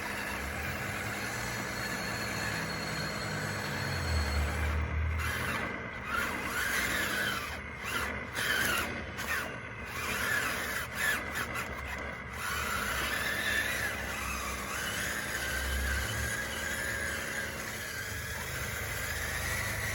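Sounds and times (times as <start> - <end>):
high squealing whine: 0.0 - 19.9.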